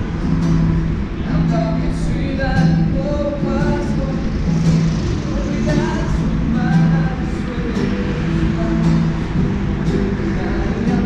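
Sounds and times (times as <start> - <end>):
song with vocal melody: 1.0 - 11.0.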